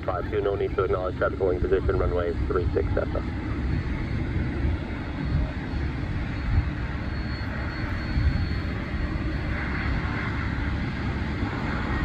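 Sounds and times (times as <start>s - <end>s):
high-pitched engine whine: 0.0s - 12.0s
turboprop engines rumbling: 0.0s - 12.0s.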